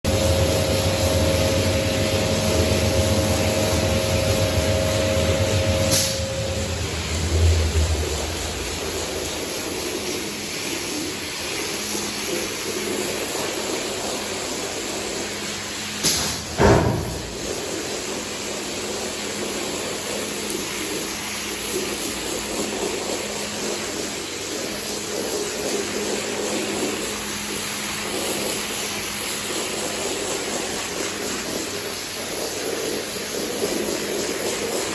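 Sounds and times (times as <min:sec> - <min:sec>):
pressure washer spraying rug: 0:00.1 - 0:34.9.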